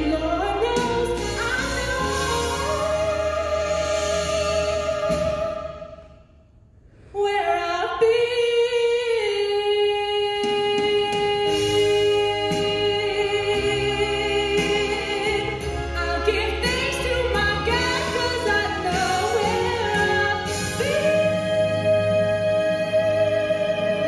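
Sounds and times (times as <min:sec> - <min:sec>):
woman singing into microphone: 0:00.0 - 0:06.1, 0:07.2 - 0:24.0.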